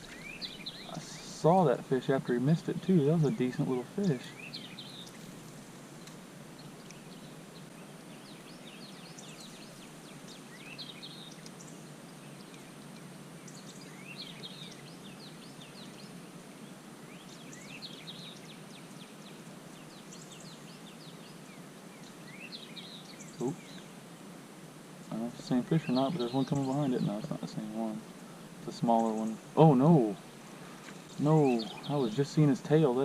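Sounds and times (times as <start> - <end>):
outdoor background hiss: 0.0 - 33.0
songbird chirping: 0.0 - 33.0.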